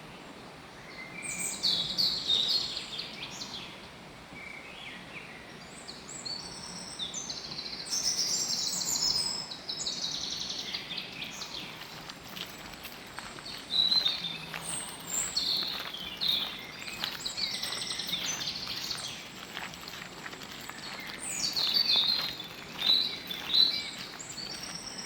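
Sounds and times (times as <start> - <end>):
songbirds trilling and chirping: 0.8 - 25.0.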